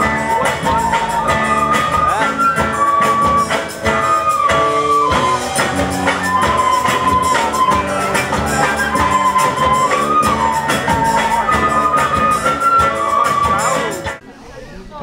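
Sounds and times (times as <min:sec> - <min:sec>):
recorders playing melody: 0:00.0 - 0:14.2
strummed acoustic guitars: 0:00.0 - 0:14.2.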